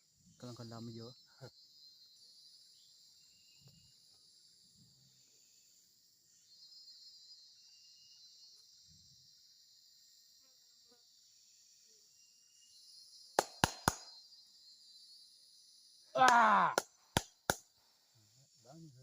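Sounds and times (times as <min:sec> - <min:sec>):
insect chorus droning: 0:00.0 - 0:19.0.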